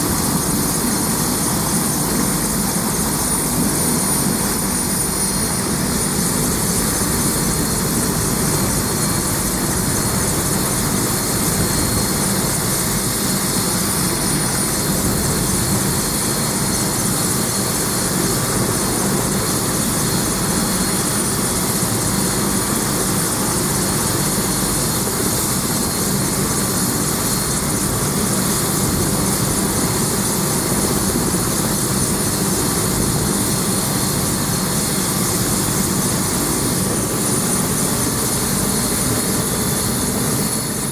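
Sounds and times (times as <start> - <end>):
helicopter rotor rumble: 0.0 - 40.9
helicopter turbine whine: 0.0 - 40.9.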